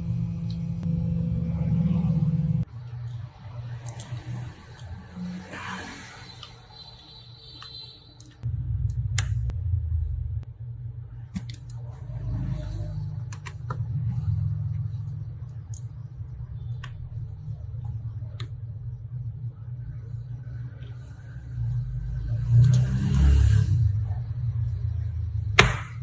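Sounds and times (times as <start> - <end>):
steady low hum: 0.0 - 5.7, 7.3 - 26.0.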